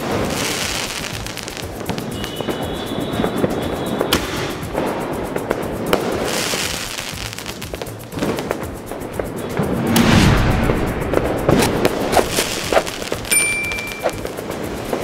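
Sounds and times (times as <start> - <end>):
sharp firework reports: 0.0 - 7.6, 9.2 - 15.0
fireworks crackling: 0.0 - 15.0.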